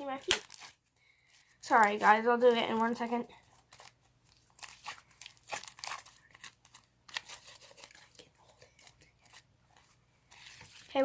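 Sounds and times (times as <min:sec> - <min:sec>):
crackling and rustling handling: 0:00.0 - 0:11.0.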